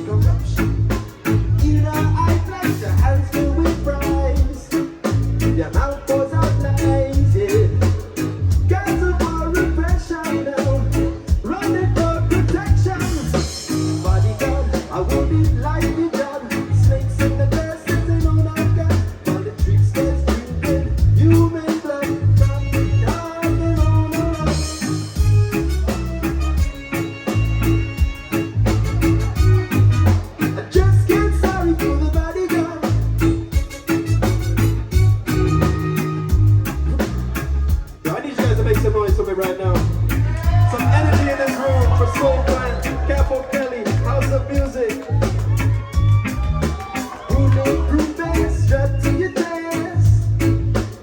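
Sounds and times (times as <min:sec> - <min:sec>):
live band playing: 0:00.0 - 0:51.0
pulsing bass line: 0:00.0 - 0:51.0.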